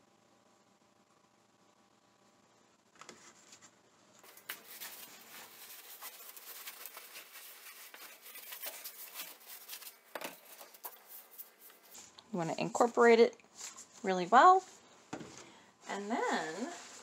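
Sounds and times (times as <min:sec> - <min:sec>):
plastic milk jug rustling: 0:03.0 - 0:17.0.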